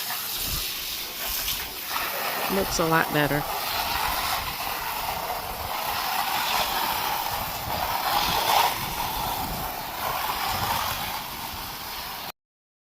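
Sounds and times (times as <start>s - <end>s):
pressure washer spray hissing: 0.0s - 12.3s.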